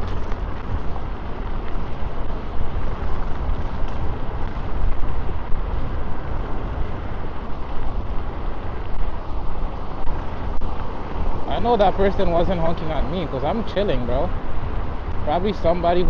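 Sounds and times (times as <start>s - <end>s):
electric scooter road noise: 0.0s - 16.0s
wind rumble: 0.0s - 16.0s.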